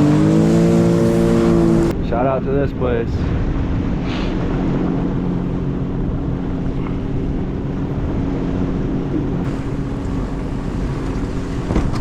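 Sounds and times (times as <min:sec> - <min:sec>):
water rushing: 0:00.0 - 0:02.1, 0:04.3 - 0:12.0
jet ski engine hum: 0:00.0 - 0:12.0
wind noise: 0:00.0 - 0:12.0.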